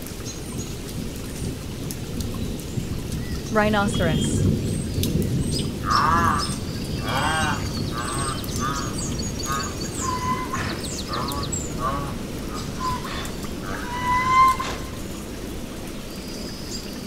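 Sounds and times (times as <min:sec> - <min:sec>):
small birds chirping: 0:02.3 - 0:17.0.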